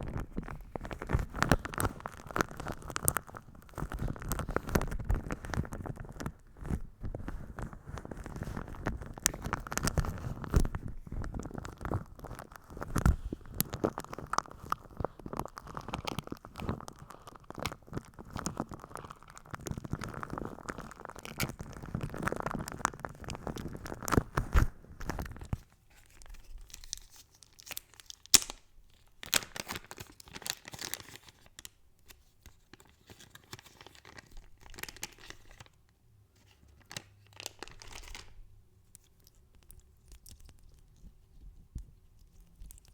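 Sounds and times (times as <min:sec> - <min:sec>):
dense crackling and crinkling: 0:00.0 - 0:42.9.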